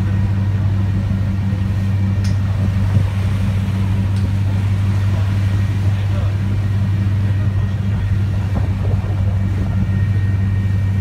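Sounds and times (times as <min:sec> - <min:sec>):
churning wake water: 0:00.0 - 0:11.0
ship engine drone: 0:00.0 - 0:11.0.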